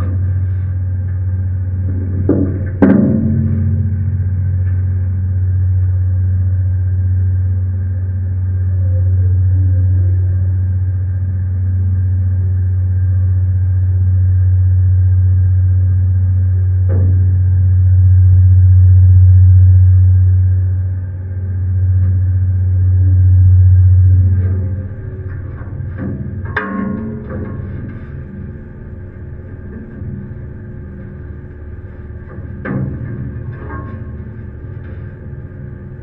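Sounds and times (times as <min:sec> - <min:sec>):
ship engine rumbling: 0:00.0 - 0:36.0.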